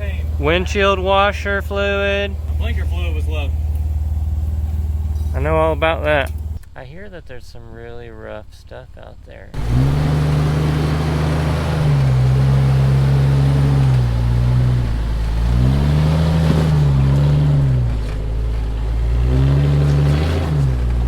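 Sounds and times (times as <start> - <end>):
engine running under load: 0.0 - 6.6, 8.6 - 21.0.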